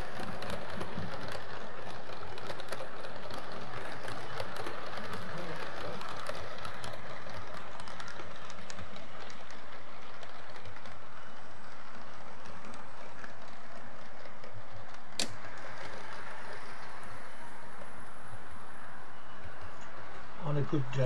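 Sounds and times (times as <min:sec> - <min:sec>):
model train rolling on rails: 0:00.0 - 0:21.0.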